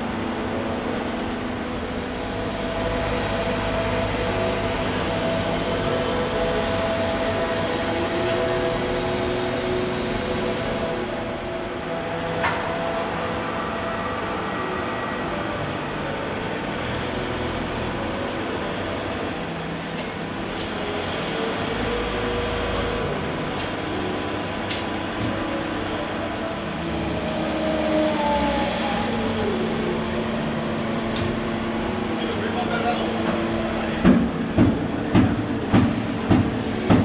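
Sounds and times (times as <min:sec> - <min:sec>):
forklift engine running: 0:00.0 - 0:37.0.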